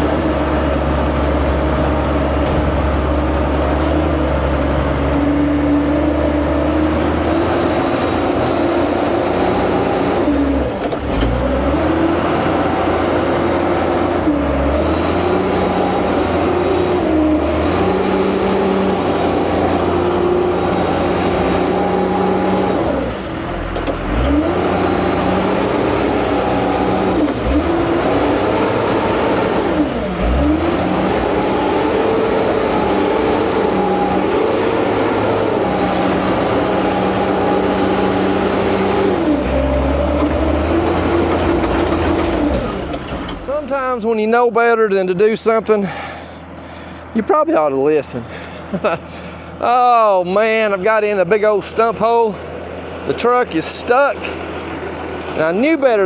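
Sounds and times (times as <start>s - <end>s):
dump truck diesel engine revving: 0.0s - 44.4s, 45.5s - 56.0s.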